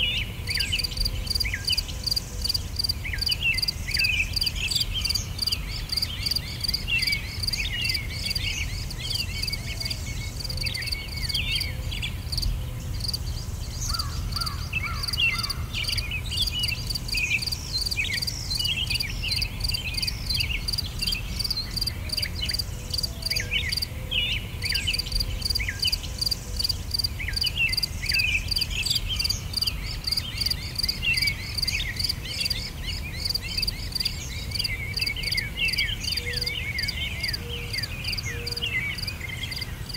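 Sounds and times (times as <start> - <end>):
insects chirping: 0.0 - 23.9, 24.6 - 38.3, 38.9 - 39.9
bird chirps: 0.0 - 39.9.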